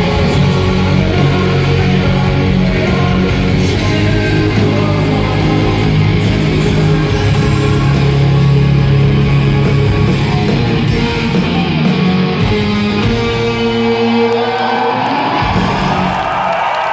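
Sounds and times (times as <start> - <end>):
live rock band playing: 0.0 - 16.4.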